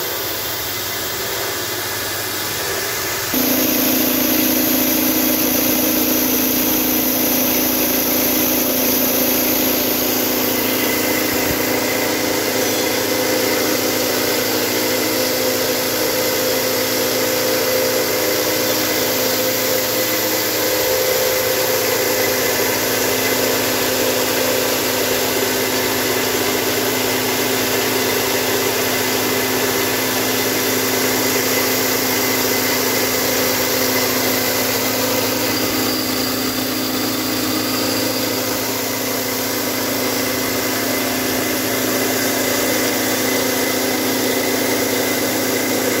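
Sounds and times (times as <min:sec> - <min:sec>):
electric motor hum: 0:03.4 - 0:25.6, 0:30.6 - 0:46.0.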